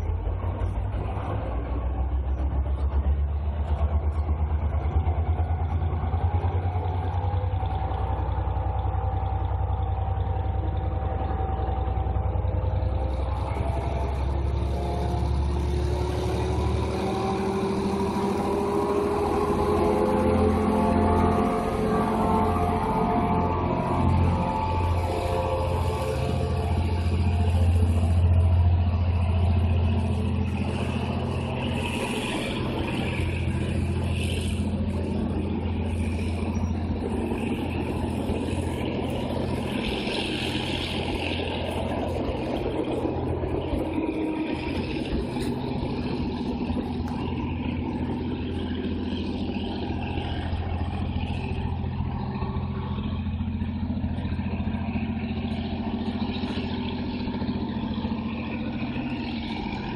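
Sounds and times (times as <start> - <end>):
locomotive diesel engine drone: 0.0 - 59.9
train wheels rumbling on rails: 0.0 - 59.9.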